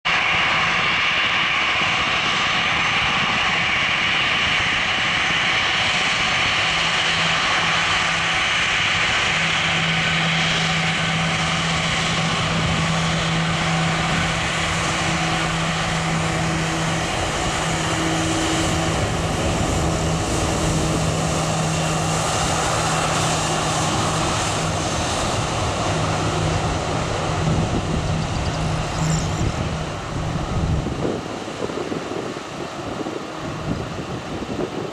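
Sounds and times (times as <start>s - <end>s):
jet airliner taxiing with whine: 0.1s - 34.9s.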